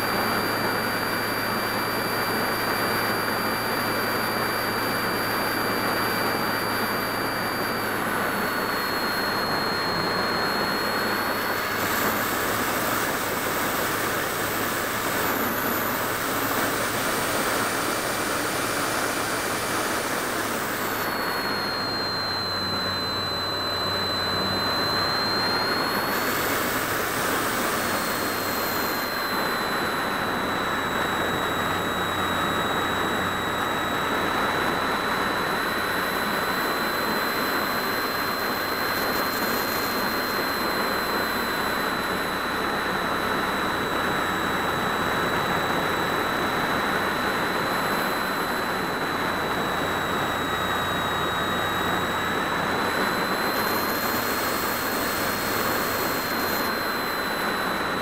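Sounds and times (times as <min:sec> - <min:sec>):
steady high whine: 0:00.0 - 0:58.0.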